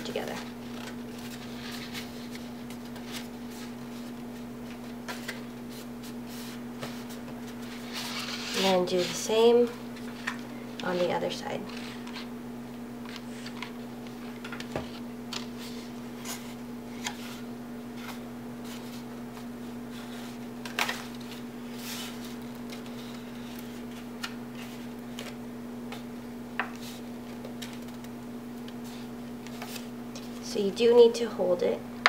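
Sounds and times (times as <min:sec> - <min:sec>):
card stock rustling and crackling: 0:00.0 - 0:12.3, 0:13.0 - 0:30.5
steady low hum: 0:00.0 - 0:32.0.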